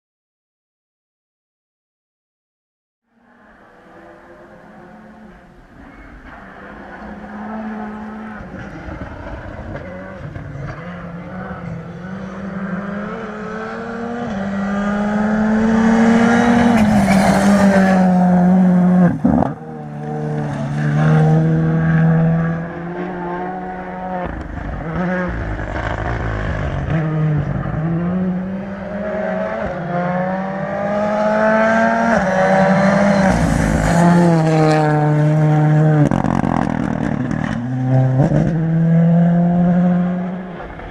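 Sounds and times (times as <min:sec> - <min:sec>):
rally car engine revving: 0:03.1 - 0:40.9.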